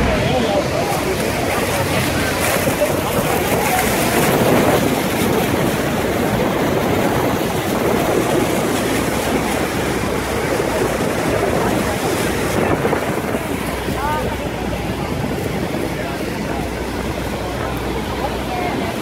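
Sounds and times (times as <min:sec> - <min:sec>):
water churning around boat: 0:00.0 - 0:19.0
waterfall roaring: 0:00.0 - 0:19.0.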